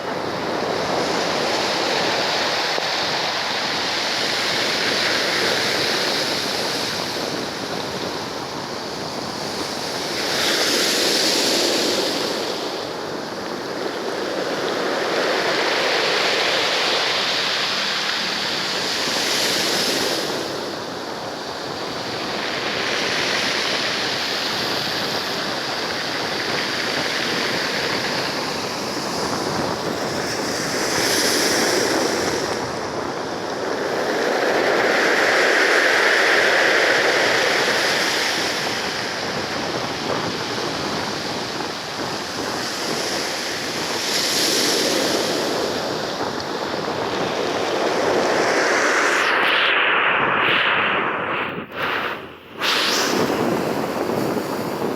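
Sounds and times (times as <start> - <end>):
waves rolling in and washing back: 0.0 - 54.9.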